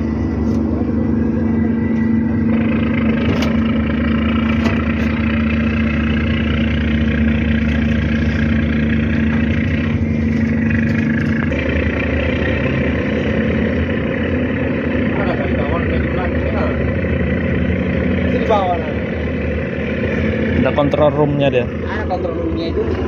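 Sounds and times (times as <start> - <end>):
ship diesel engine droning: 0.0 - 23.0.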